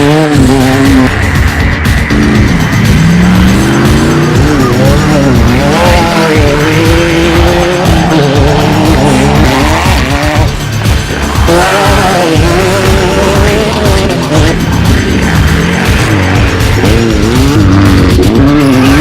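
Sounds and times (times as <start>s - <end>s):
engine revving hard: 0.0s - 19.0s
music: 0.0s - 19.0s.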